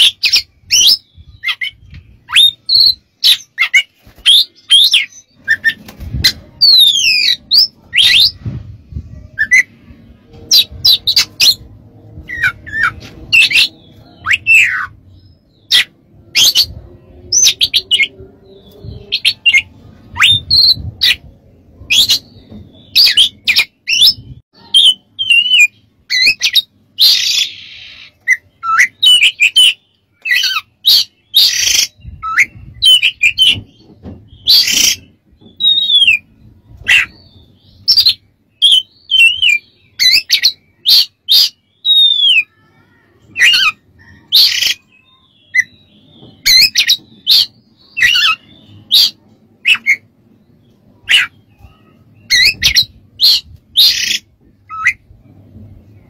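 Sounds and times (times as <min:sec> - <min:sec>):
bird whistles and chirps: 0:00.0 - 0:08.6, 0:15.6 - 0:42.6, 0:43.4 - 0:50.1, 0:51.0 - 0:55.1.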